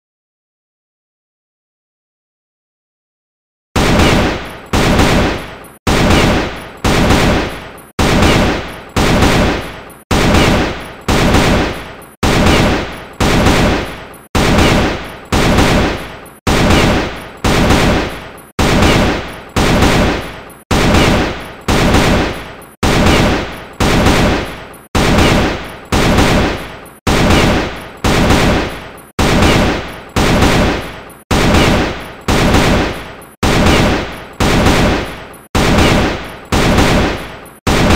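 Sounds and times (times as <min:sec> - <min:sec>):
rifle gunfire: 0:03.8 - 0:37.9.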